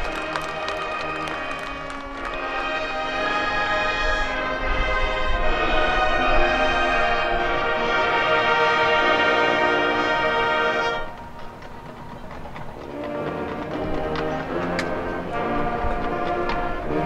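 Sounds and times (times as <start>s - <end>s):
marching band brass chords: 0.0s - 17.0s.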